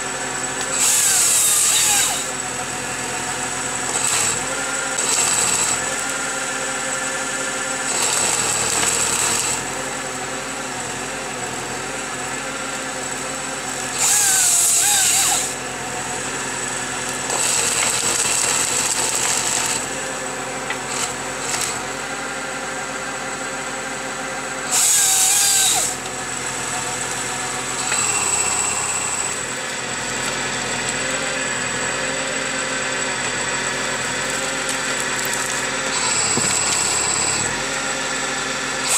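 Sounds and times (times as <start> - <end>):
tractor engine and hydraulics whine: 0.0 - 38.9.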